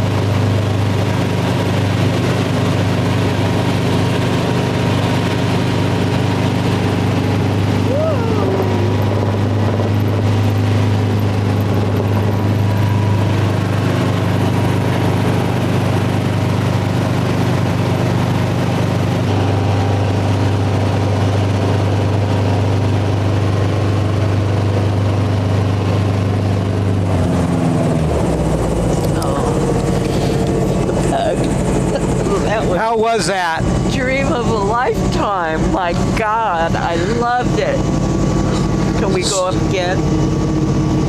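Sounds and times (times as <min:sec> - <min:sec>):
helicopter engine and rotor: 0:00.0 - 0:41.0.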